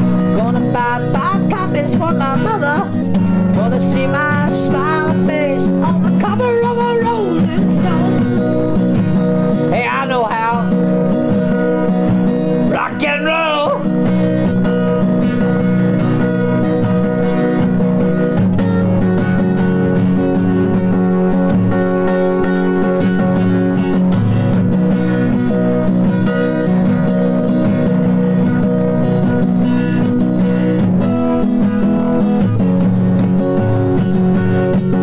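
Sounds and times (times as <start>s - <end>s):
instrumental rock music: 0.0s - 35.0s.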